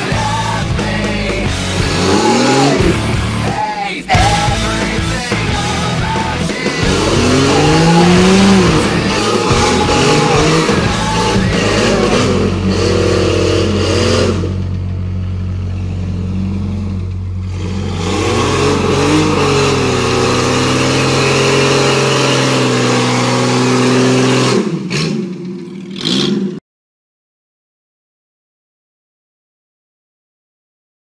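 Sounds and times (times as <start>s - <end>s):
engine revving: 0.0s - 26.6s.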